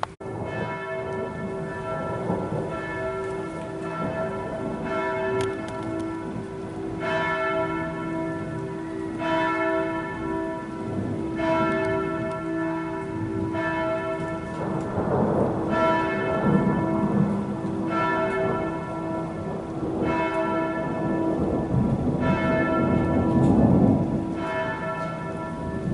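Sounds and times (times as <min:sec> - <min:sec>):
steady rain: 0:00.0 - 0:25.9
thunder rumble: 0:00.0 - 0:25.9
church bell tolling: 0:00.2 - 0:25.9.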